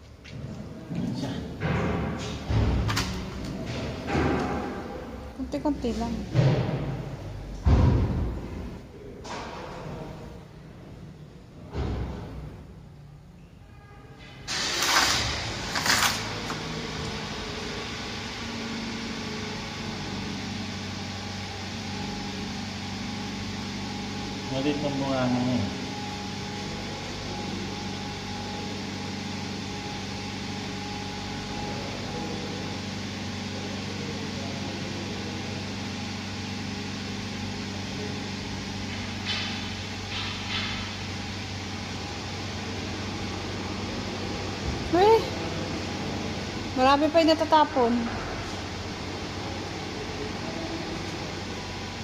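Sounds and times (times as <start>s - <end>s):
steady mechanical hum: 0.0s - 52.0s.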